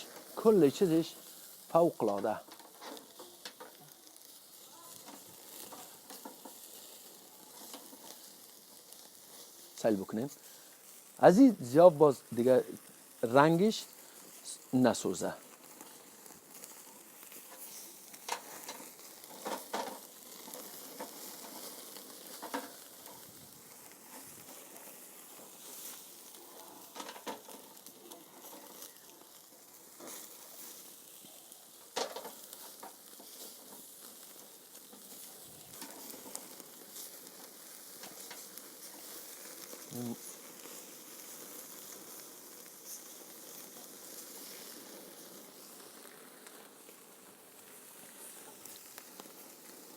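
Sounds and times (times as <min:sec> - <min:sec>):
crackles and pops: 0:00.0 - 0:49.9
meat sizzling on charcoal grill: 0:00.0 - 0:49.9.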